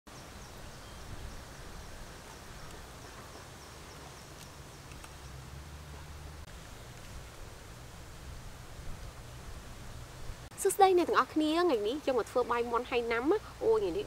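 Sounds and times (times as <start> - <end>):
steady hiss: 0.1 - 14.0.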